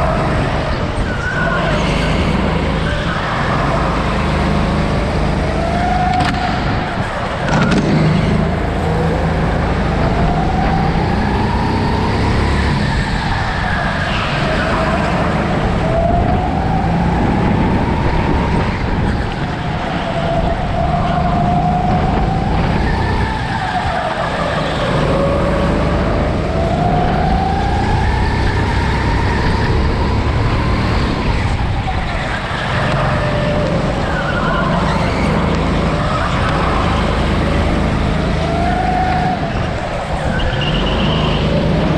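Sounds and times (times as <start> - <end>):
chassis and tyres rumbling: 0.0 - 41.9
kart drive whine: 0.0 - 41.9.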